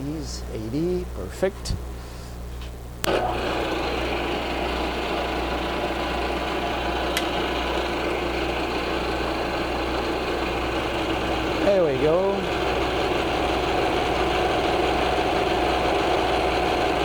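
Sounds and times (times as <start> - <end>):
low hum: 0.0 - 17.0
milling machine running: 3.0 - 17.0.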